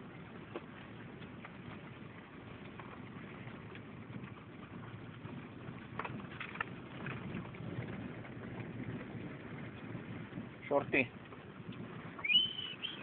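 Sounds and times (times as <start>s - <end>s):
vehicle cabin rumble: 0.0s - 13.0s.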